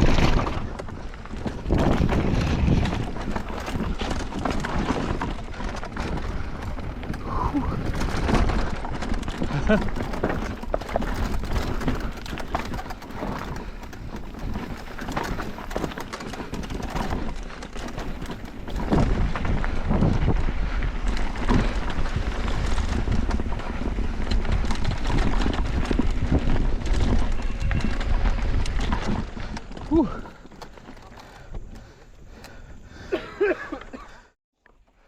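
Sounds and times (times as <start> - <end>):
wind buffeting microphone: 0.0 - 34.0
tyre noise: 0.0 - 34.3
bike rattling over rough trail: 0.0 - 35.0.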